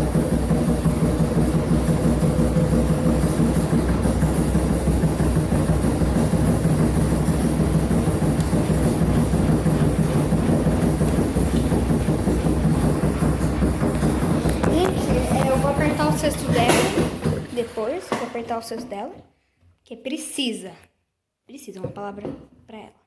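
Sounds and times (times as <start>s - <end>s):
machine shaking in cabinet: 0.0s - 18.5s
washing machine spinning with rattle: 0.0s - 19.2s.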